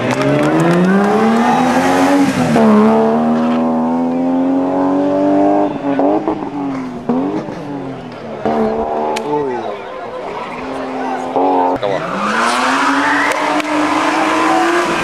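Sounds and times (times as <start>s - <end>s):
rally car engine accelerating: 0.0s - 15.0s.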